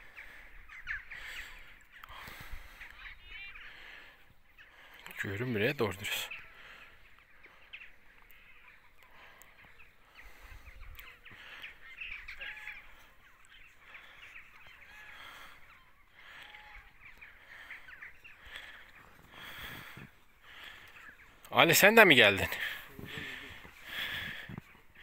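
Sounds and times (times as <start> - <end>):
flock of birds calling faintly: 0.0 - 25.0.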